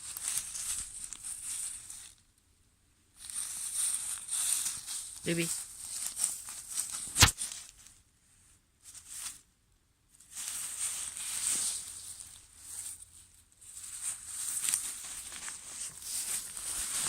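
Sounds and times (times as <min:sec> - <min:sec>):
dry leaves rustling underfoot: 0:00.0 - 0:02.2, 0:03.2 - 0:08.0, 0:08.8 - 0:09.4, 0:10.2 - 0:17.0.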